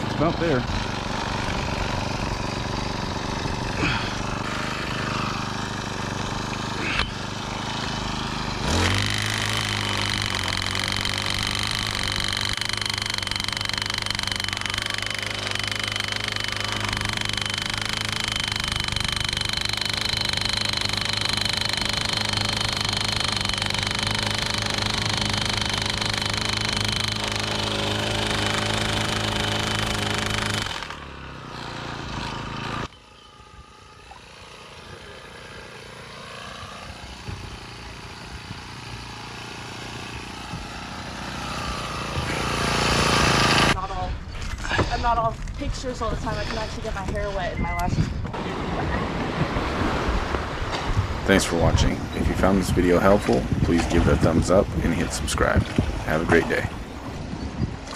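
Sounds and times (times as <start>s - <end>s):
small engine revving: 0.0s - 43.8s, 50.8s - 57.2s.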